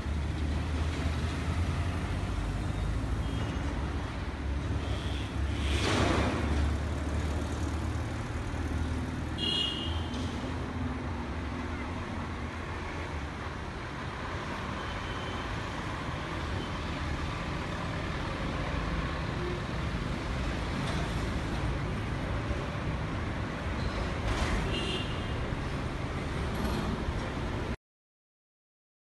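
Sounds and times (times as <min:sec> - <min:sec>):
road traffic: 0:00.0 - 0:27.8.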